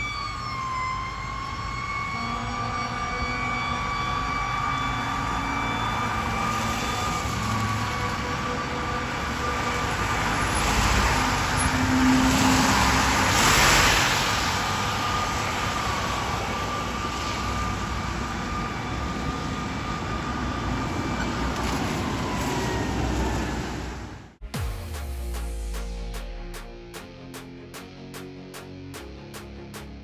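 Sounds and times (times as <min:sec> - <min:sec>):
traffic rushing noise: 0:00.0 - 0:30.0.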